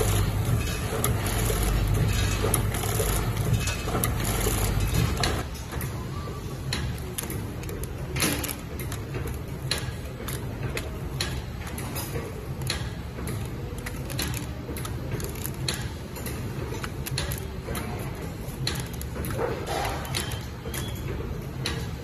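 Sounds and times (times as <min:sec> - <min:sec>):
packaging machine humming: 0:00.0 - 0:22.0.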